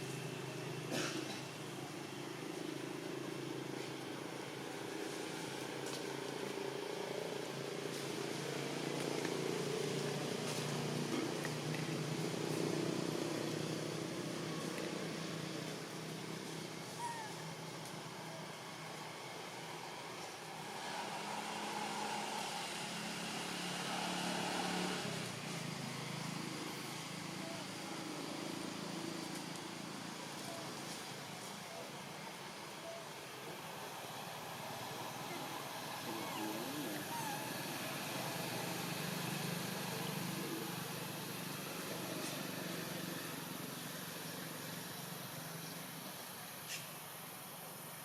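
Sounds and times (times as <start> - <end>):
engine hum: 0.0 - 48.0.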